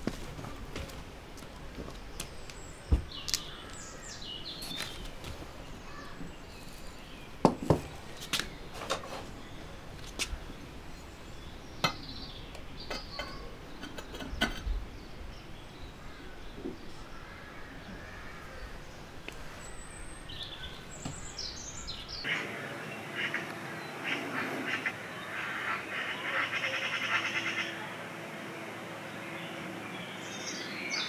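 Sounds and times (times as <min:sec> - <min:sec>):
birds chirping faintly: 0:00.0 - 0:31.0.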